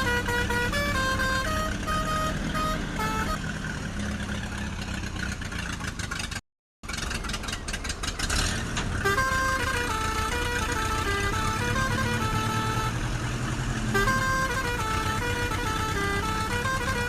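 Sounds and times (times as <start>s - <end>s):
cartoon engine rumble: 0.0s - 6.4s, 7.0s - 17.0s.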